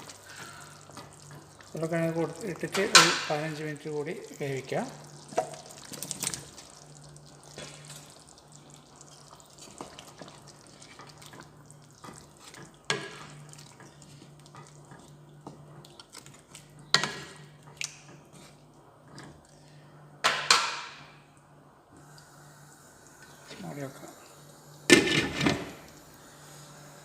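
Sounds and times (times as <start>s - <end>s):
soft wet stirring in a pot: 0.0s - 20.2s, 21.2s - 25.0s.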